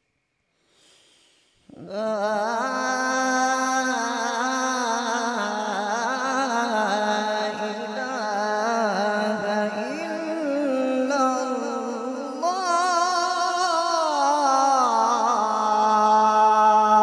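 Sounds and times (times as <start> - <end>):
man reciting melodically: 1.7 - 17.0.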